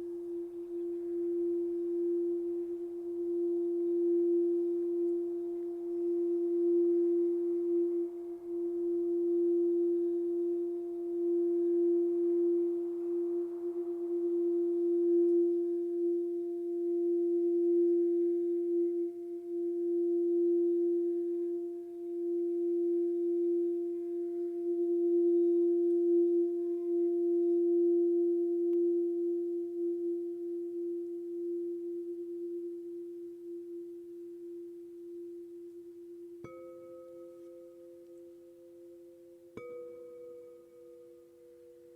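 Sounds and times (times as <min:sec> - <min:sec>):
higher-pitched singing bowl ringing: 0:00.0 - 0:41.9
singing bowl low tone: 0:00.0 - 0:41.9.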